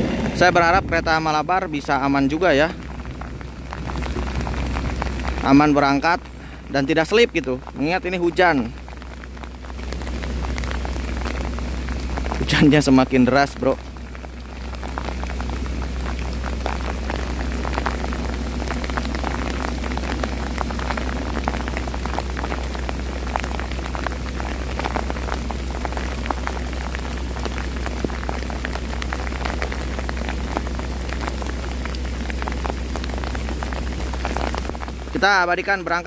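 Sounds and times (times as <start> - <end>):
heavy rain: 0.0 - 36.0
raindrops clicking near microphone: 0.0 - 36.0
steady low hum: 0.0 - 36.0.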